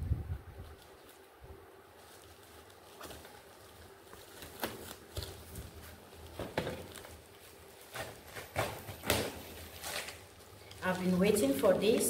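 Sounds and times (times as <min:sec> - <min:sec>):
bubble wrap crinkling: 0:00.4 - 0:12.0.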